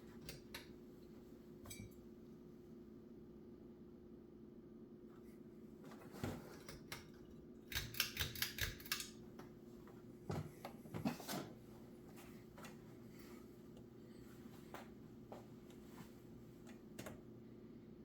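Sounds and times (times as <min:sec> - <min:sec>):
ceiling fan motor humming: 0:00.0 - 0:18.0.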